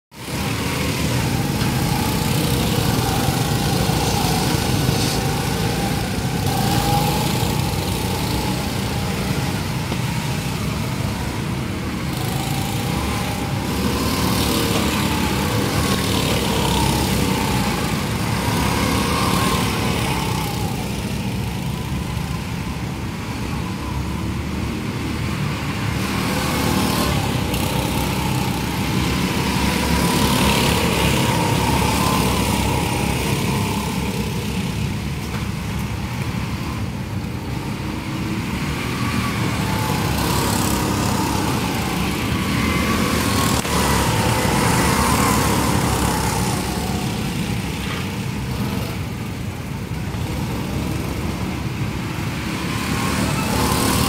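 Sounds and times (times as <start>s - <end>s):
go-kart engines passing: 0.2s - 54.0s.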